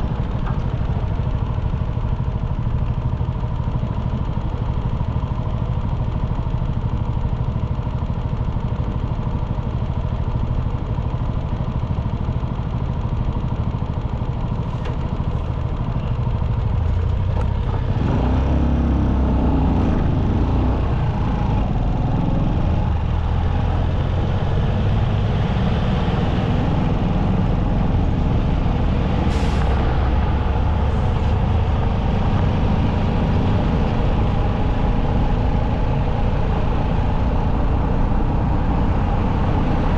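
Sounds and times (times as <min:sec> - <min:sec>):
traffic noise: 0:00.0 - 0:07.2, 0:08.1 - 0:39.9
motorcycle engine running: 0:00.0 - 0:29.1, 0:29.8 - 0:39.9.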